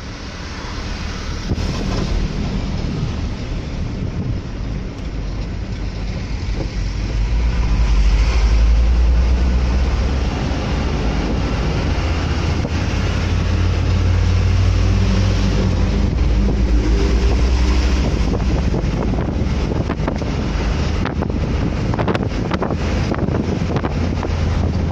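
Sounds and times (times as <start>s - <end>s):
deep vehicle rumble: 0.0s - 24.9s
wind buffeting microphone: 0.8s - 24.9s.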